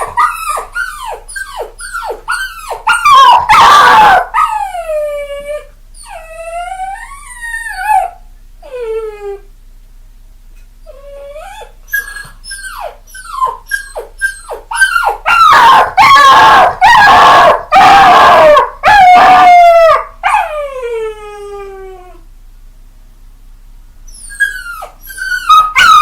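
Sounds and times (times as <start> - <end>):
puppy whimpering and crying: 0.0 - 9.5, 10.9 - 22.2, 24.1 - 26.0.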